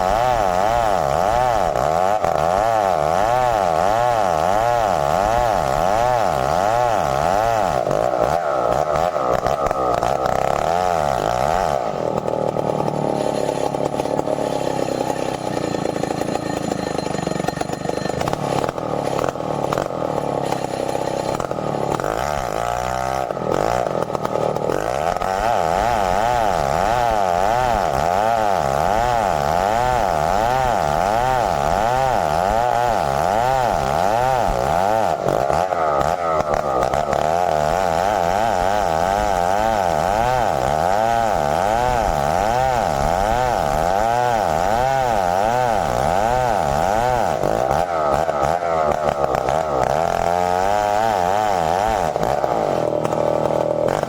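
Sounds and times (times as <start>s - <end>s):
chainsaw cutting timber: 0.0s - 54.0s.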